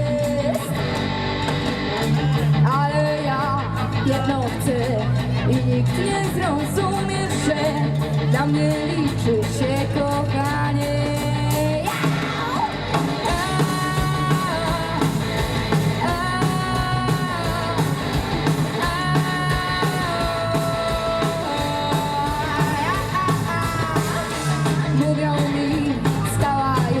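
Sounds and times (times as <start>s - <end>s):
drums and bass beat: 0.0s - 27.0s.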